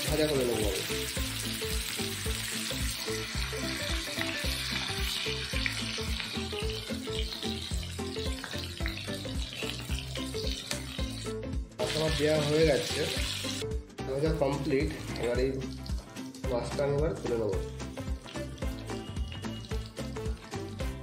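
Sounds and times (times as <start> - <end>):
background music with steady beat: 0.0 - 21.0
fish sizzling in hot oil: 0.0 - 21.0.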